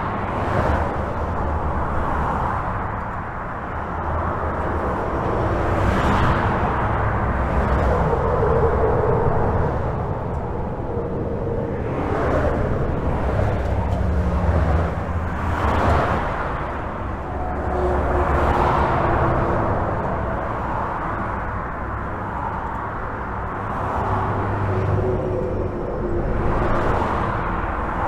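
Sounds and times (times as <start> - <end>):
highway traffic rumble: 0.0 - 28.0.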